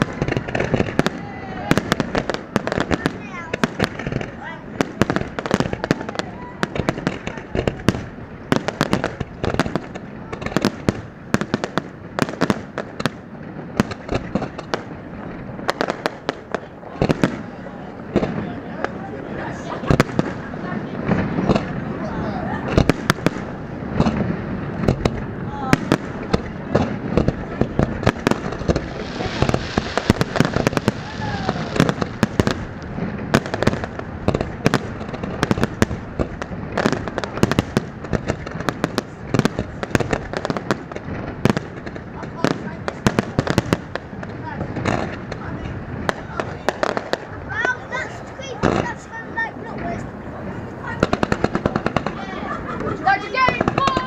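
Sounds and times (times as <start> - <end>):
steady background hiss: 0.0 - 53.8
fireworks exploding: 0.0 - 54.0.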